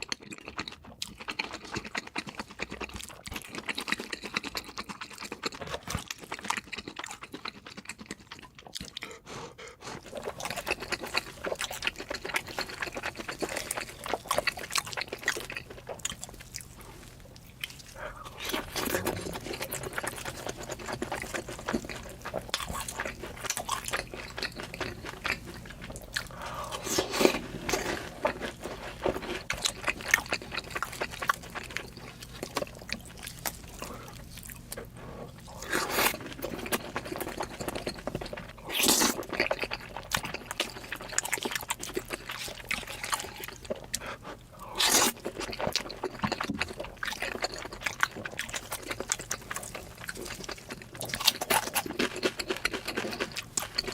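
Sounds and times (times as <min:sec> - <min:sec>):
wet chewing and smacking: 0:00.0 - 0:53.9.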